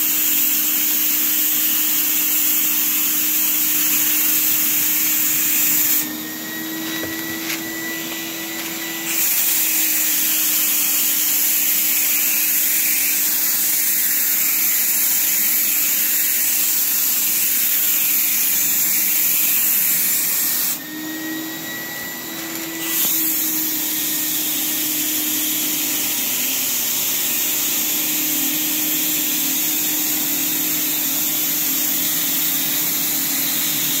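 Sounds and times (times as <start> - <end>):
spray gun hissing: 0.0 - 20.8, 22.4 - 34.0
steady hum of a spray compressor: 0.0 - 20.8, 21.5 - 34.0.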